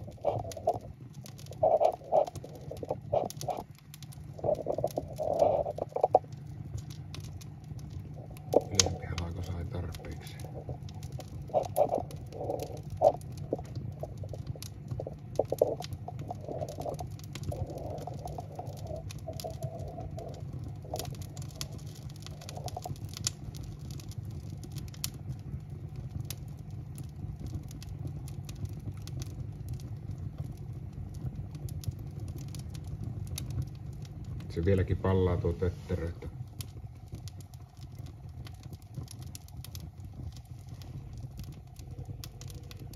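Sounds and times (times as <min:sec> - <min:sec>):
steady low hum: 0:00.0 - 0:42.9
wood fire crackling and popping: 0:00.0 - 0:42.9.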